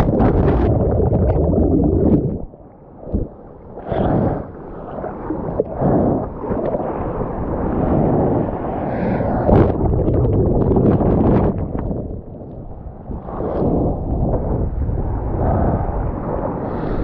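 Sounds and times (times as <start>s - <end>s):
seawater splashing and rushing: 0.0s - 17.0s
wind buffeting microphone: 0.0s - 17.0s.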